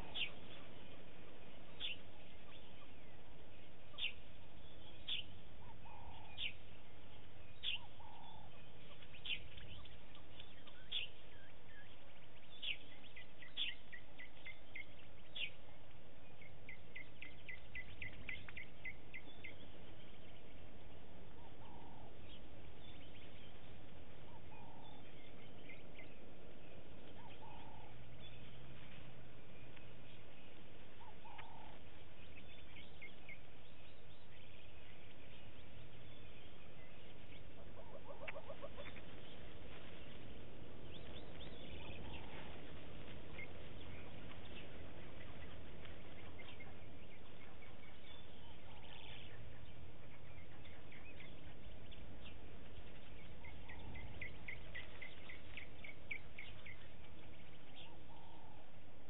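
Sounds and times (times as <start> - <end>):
wild birds chirping and trilling: 0.0 - 59.0.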